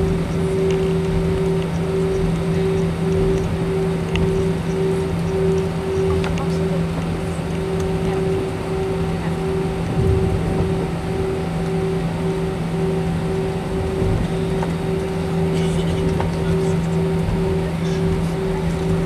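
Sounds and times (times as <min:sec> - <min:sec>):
jet engine hum: 0:00.0 - 0:19.0
low rumble: 0:00.0 - 0:19.0
pulsing high tone: 0:00.0 - 0:19.0.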